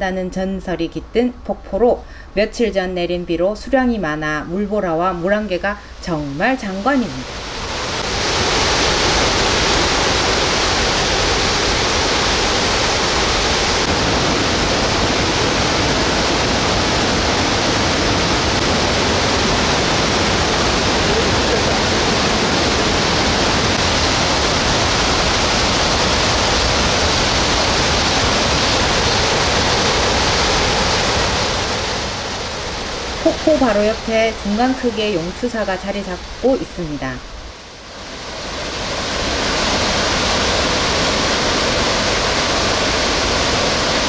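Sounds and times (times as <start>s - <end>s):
waterfall rushing: 6.2s - 44.0s.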